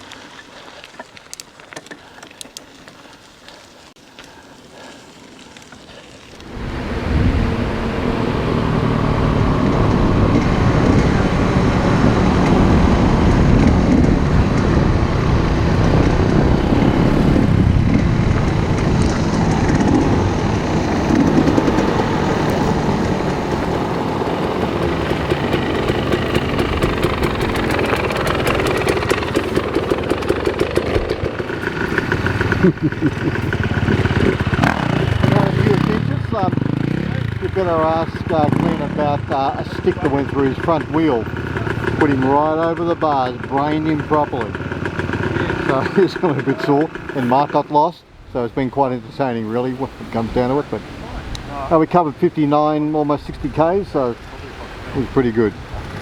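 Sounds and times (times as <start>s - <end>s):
motorcycle engines running: 6.1s - 56.0s.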